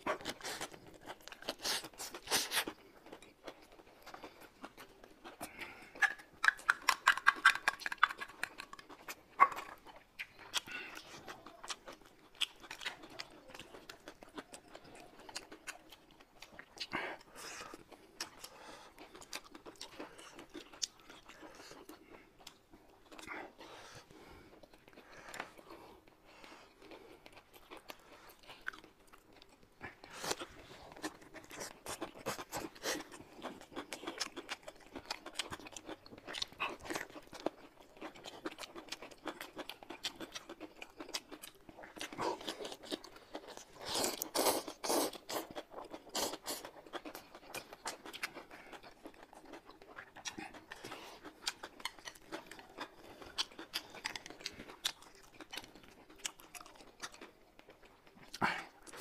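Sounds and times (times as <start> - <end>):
people chewing with crunches: 0.0 - 59.0.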